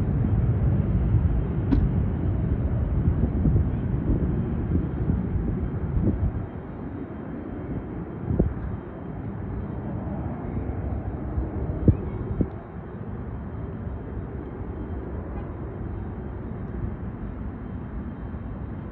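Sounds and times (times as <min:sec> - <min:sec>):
distant jet engines rumbling: 0:00.0 - 0:18.9.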